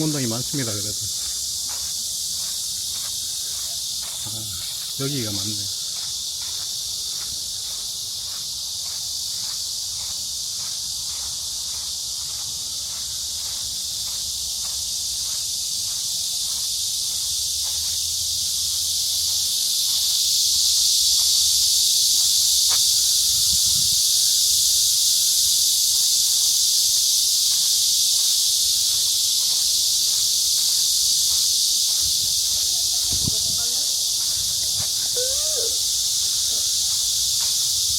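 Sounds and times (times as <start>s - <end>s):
faint footsteps: 0.0s - 21.5s, 27.5s - 37.9s
insects buzzing in trees: 0.0s - 37.9s.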